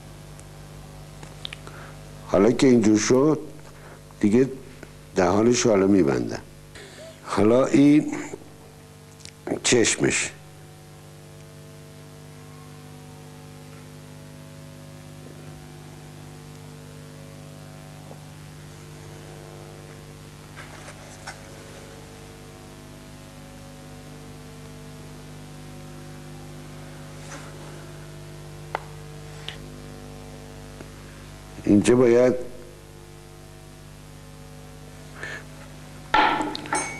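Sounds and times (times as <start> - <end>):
background hiss: 0.0 - 12.6, 14.8 - 36.9
steady electrical hum: 0.0 - 36.9.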